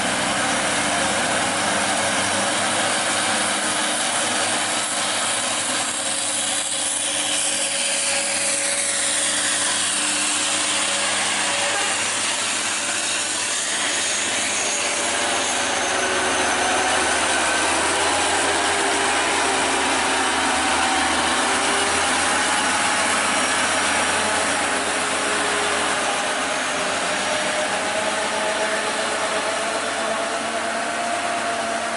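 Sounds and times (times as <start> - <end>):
diesel truck engine under load: 0.0 - 31.9
road and tyre noise: 0.0 - 31.9.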